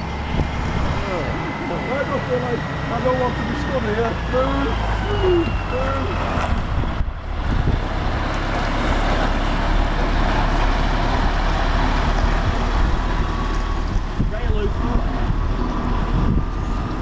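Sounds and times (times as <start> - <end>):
diesel truck engine: 0.0 - 17.0
tyre and road noise: 0.0 - 17.0.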